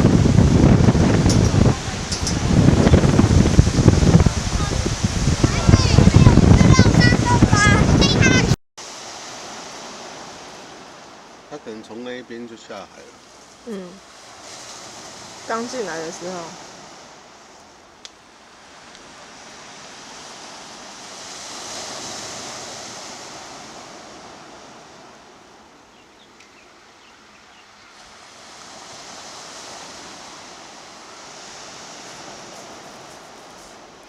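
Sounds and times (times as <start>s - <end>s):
sea waves washing ashore: 0.0s - 34.0s.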